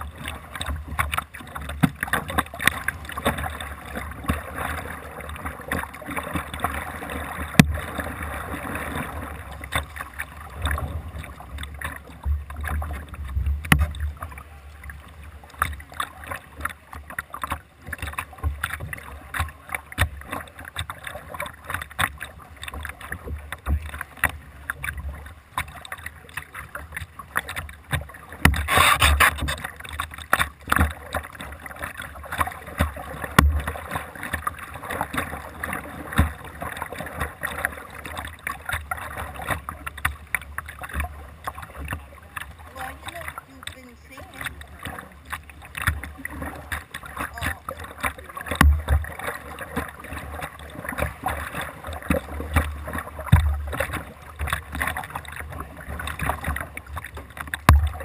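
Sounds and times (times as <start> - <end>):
paddle strokes in water: 0.0 - 58.0
water splashing and dripping: 0.0 - 58.0.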